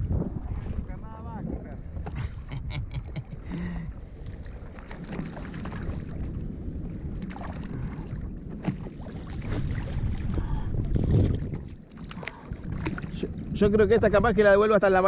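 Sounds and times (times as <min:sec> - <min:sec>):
water lapping against kayak: 0:00.0 - 0:15.0
wind buffeting microphone: 0:00.0 - 0:15.0.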